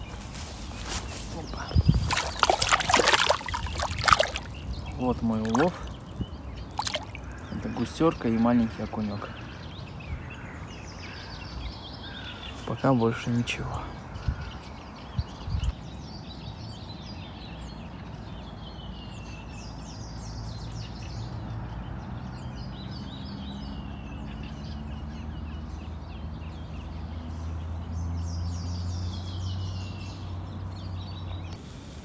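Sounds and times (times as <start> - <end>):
songbird trilling and chirping: 0.0 - 31.6.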